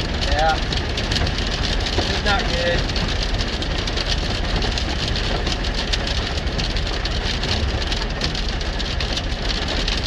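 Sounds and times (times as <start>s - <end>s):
hail and rain pelting truck cab: 0.0s - 10.0s.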